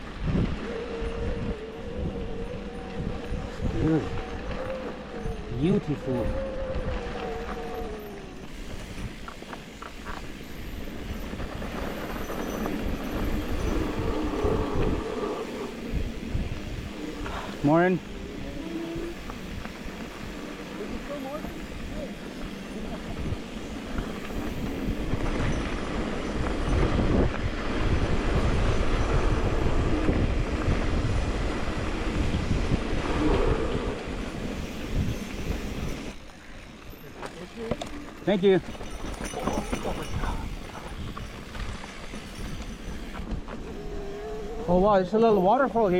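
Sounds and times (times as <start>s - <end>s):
bike rumbling and rattling on dirt: 0.0s - 45.9s
wind buffeting microphone: 0.0s - 45.9s.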